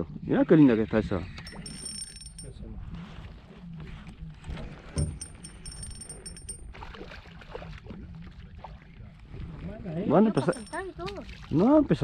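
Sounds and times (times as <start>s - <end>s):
water noise around boat: 0.0s - 12.0s.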